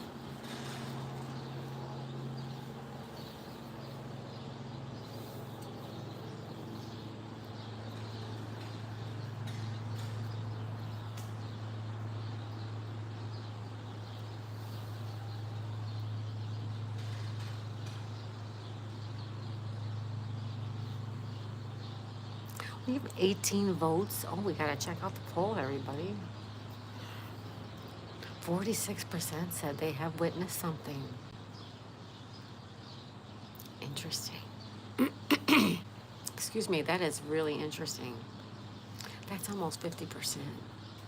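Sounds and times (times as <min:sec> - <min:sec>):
low mechanical hum: 0:00.0 - 0:41.0
songbirds singing and chirping: 0:00.0 - 0:41.0.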